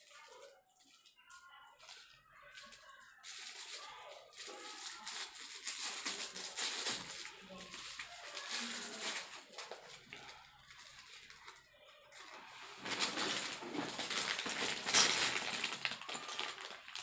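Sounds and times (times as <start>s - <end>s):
plastic and paper crinkling: 0.0s - 17.0s.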